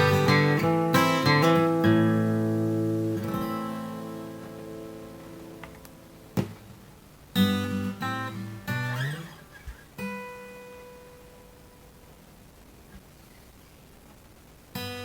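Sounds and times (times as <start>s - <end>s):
acoustic guitar chords: 0.0s - 13.5s, 14.7s - 15.0s.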